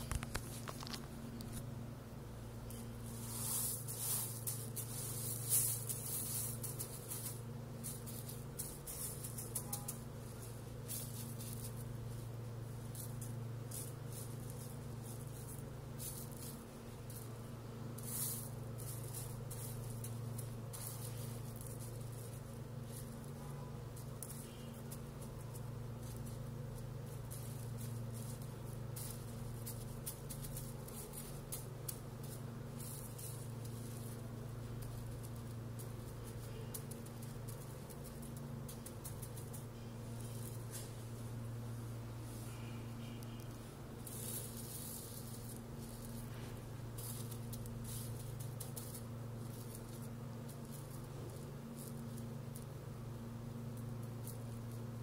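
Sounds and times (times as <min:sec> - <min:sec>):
pebbles rattling and clicking: 0:00.0 - 0:01.7, 0:02.7 - 0:41.0, 0:43.1 - 0:55.0
steady low hum: 0:00.0 - 0:55.0.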